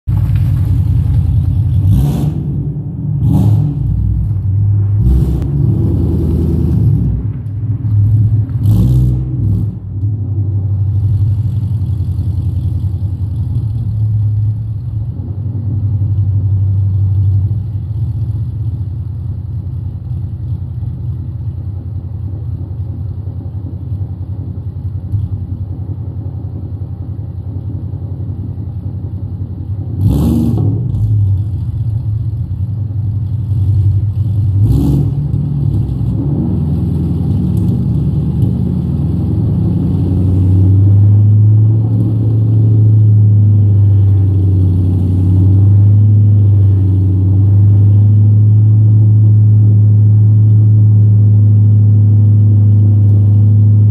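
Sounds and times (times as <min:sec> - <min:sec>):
car engine revving and idling: 0:00.0 - 0:53.9.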